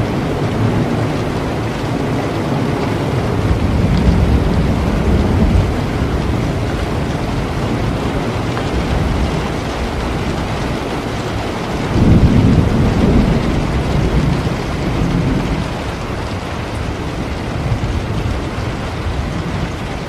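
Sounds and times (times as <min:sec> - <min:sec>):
low rumble of thunder: 0:00.0 - 0:20.0
steady rain: 0:00.0 - 0:20.0.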